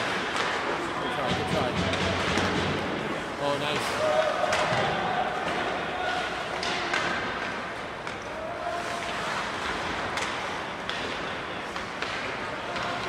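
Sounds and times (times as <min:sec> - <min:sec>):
arena hall noise: 0:00.0 - 0:13.0
hockey sticks and puck clacking: 0:00.0 - 0:13.0
skates scraping ice: 0:00.0 - 0:13.0.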